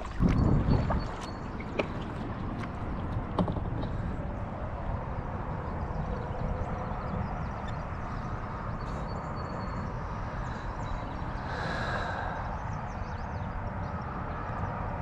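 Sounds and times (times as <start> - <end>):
flowing river: 0.0 - 13.8
wind rumbling on microphone: 0.0 - 15.0.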